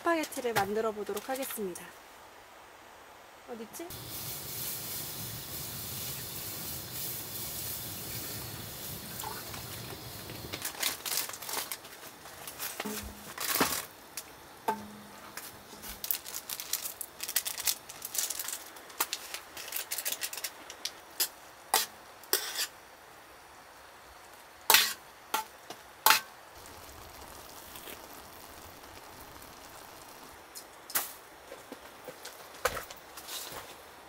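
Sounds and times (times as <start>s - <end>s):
simmering pot hiss: 0.0s - 34.0s.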